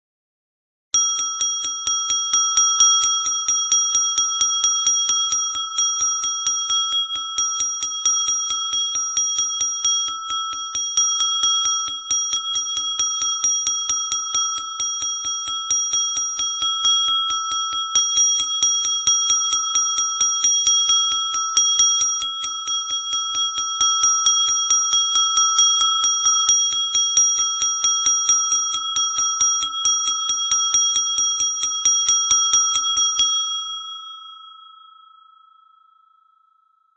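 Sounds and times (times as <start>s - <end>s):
small brass bell ringing: 1.0s - 36.1s.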